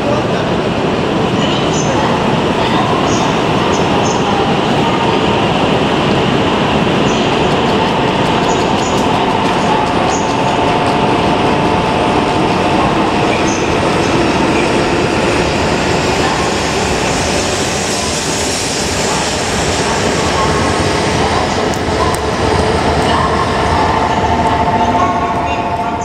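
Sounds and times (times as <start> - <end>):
train rushing past: 0.0 - 26.0.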